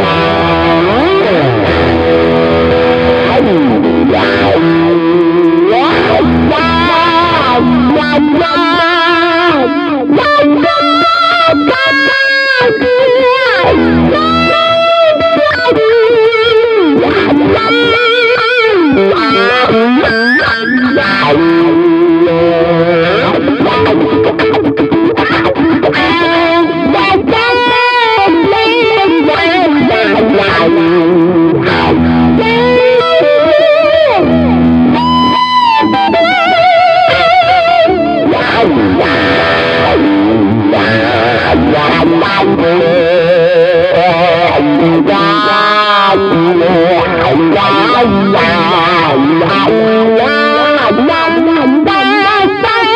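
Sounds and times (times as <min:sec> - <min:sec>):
electric guitar lead line: 0:00.0 - 0:52.9.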